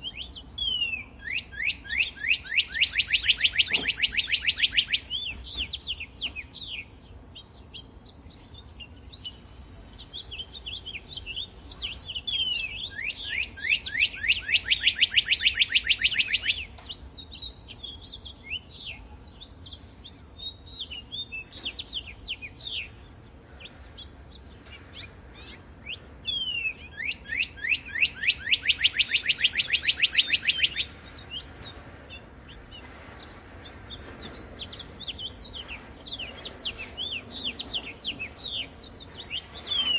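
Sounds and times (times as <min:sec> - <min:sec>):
loud fast bird trill: 0:00.0 - 0:07.9, 0:08.5 - 0:23.0, 0:25.0 - 0:39.9
songbirds chirping: 0:00.0 - 0:39.9.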